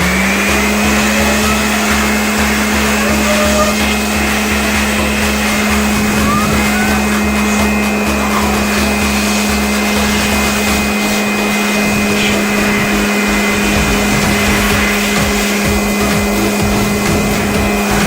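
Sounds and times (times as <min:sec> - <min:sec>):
electric air blower running: 0:00.0 - 0:18.0.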